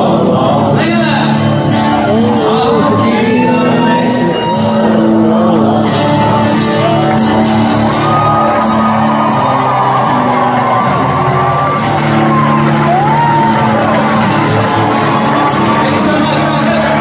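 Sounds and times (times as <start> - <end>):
acoustic guitars strumming: 0.0 - 17.0
live country band playing: 0.0 - 17.0
crowd whooping and shouting: 1.5 - 17.0.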